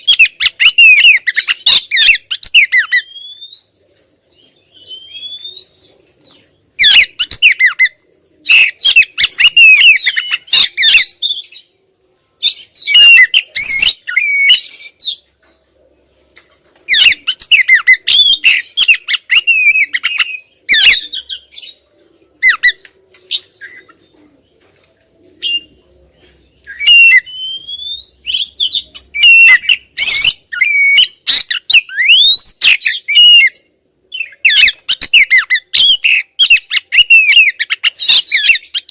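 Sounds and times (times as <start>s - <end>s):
bird chattering and whistling: 0.0s - 3.8s, 4.4s - 11.7s, 12.4s - 15.3s, 16.9s - 21.8s, 22.4s - 24.2s, 25.2s - 38.9s.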